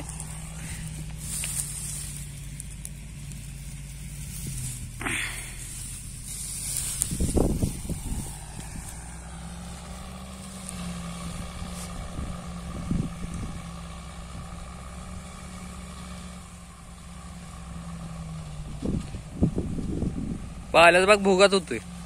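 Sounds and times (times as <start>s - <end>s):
mulcher shredding leaves: 0.0s - 22.0s
tractor engine running: 0.0s - 22.0s.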